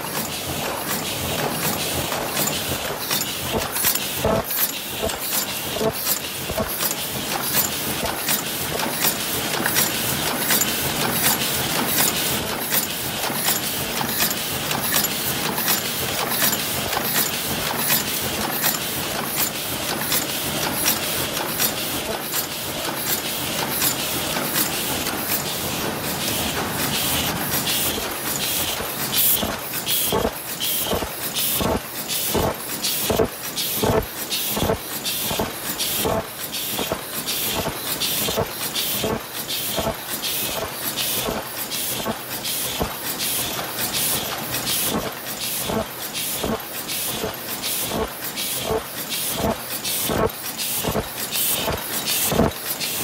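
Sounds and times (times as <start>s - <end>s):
continuous machine running noise: 0.0s - 53.0s
machine clattering: 0.0s - 53.0s.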